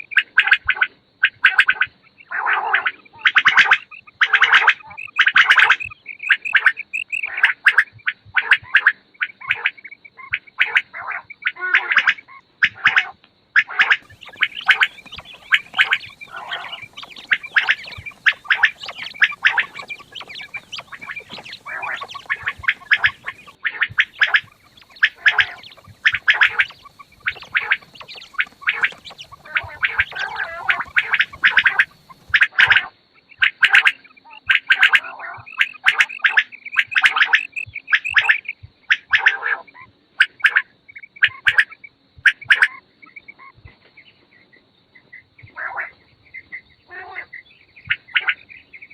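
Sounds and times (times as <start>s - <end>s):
quails calling: 0.0s - 48.9s.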